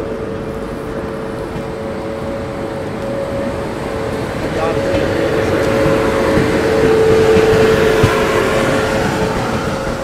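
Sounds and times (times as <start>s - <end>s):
passenger train rumbling past: 0.0s - 10.0s.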